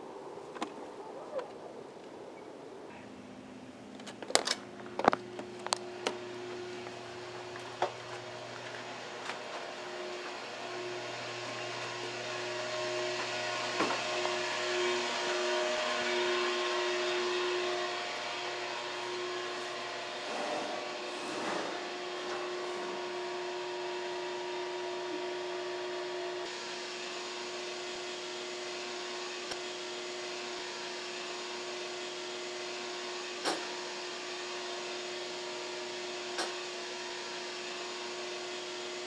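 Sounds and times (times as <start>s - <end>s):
mechanical hum with hiss: 0.0s - 39.0s.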